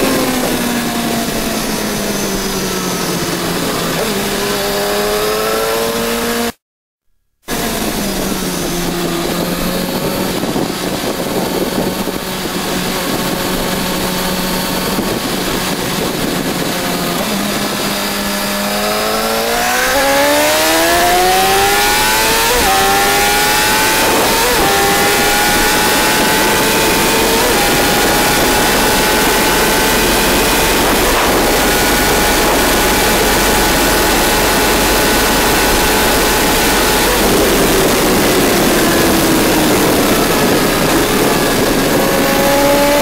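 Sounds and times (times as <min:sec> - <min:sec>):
motorcycle engine at high speed: 0:00.0 - 0:06.6, 0:07.4 - 0:43.0
wind rushing: 0:07.7 - 0:43.0.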